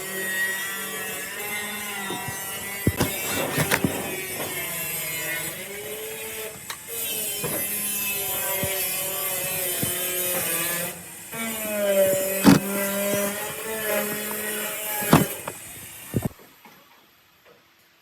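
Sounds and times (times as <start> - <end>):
small motor tool whining: 0.0 - 16.4.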